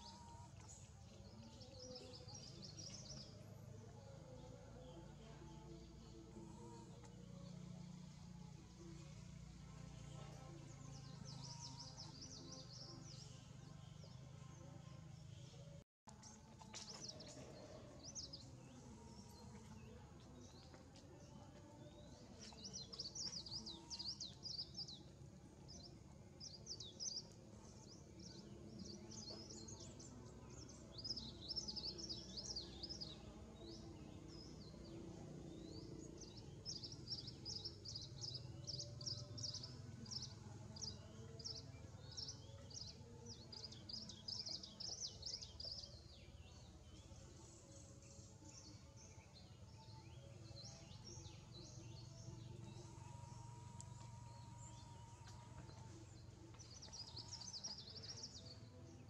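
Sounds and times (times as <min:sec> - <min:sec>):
faint low background noise: 0:00.0 - 0:59.0
small birds chirping: 0:00.0 - 0:59.0.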